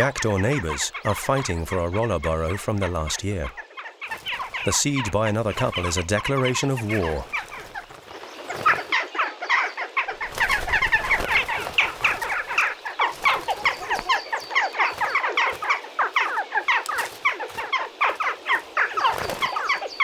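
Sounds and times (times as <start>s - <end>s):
jackdaws calling: 0.0s - 20.0s.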